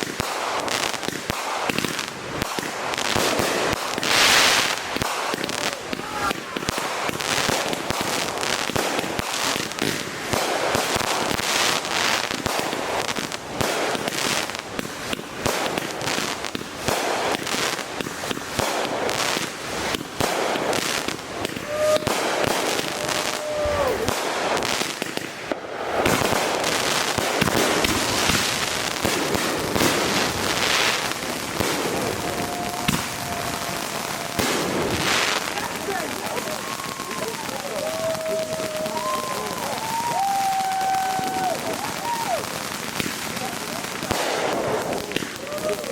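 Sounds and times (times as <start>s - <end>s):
fireworks popping and crackling: 0.0s - 45.9s.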